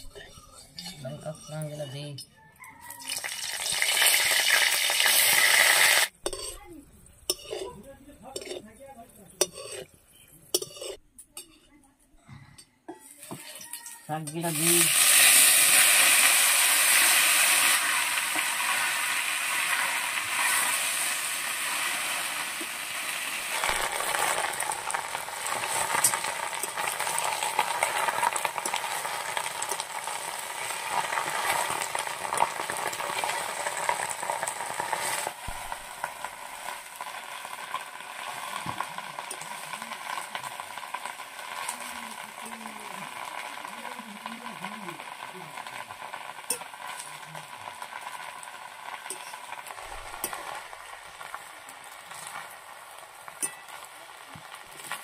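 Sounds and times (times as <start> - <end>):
food frying in hot oil: 2.9 - 8.6, 13.2 - 55.0.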